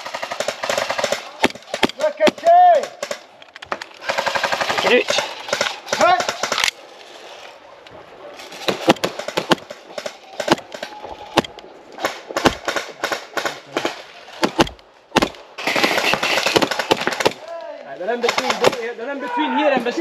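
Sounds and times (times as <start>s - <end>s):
airsoft guns firing: 0.0s - 6.7s, 8.6s - 17.5s, 18.2s - 18.9s.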